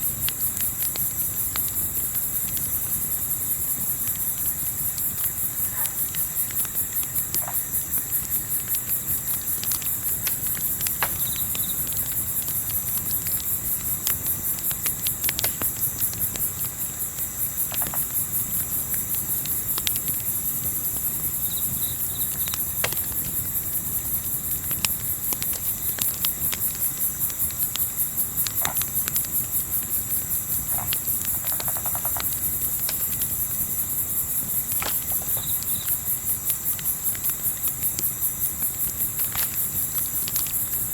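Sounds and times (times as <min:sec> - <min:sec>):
campfire pops and crackles: 0:00.0 - 0:40.9
crickets chirping: 0:00.0 - 0:40.9.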